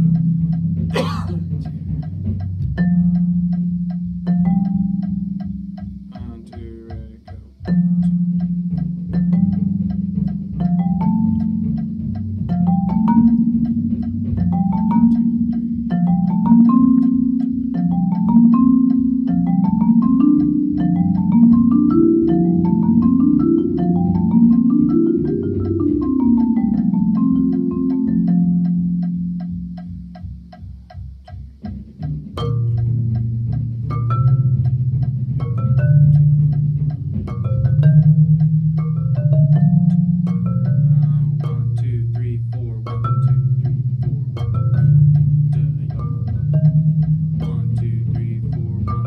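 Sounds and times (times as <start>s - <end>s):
marimba played with soft mallets: 0.0s - 49.0s.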